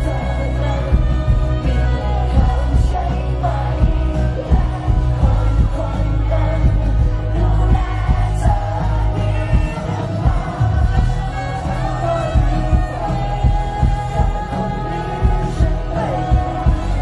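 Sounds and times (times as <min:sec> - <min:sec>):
heavy bass and drums: 0:00.0 - 0:17.0
man singing: 0:00.0 - 0:17.0.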